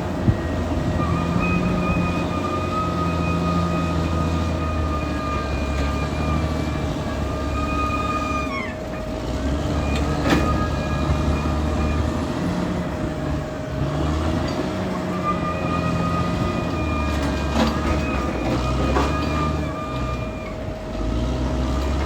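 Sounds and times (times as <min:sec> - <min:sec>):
bulldozer diesel engine drone: 0:00.0 - 0:22.0
high metallic squeal: 0:00.0 - 0:22.0.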